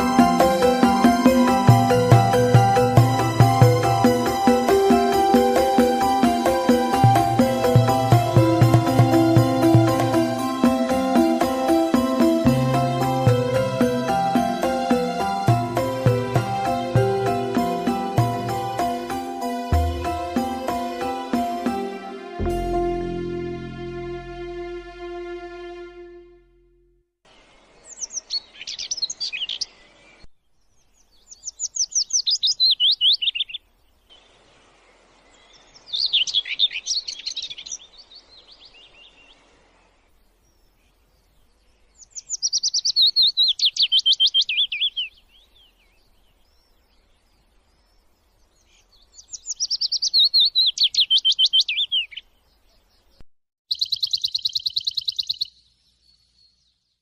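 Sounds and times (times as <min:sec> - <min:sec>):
songbird singing: 0:00.0 - 0:24.5, 0:27.3 - 0:57.0.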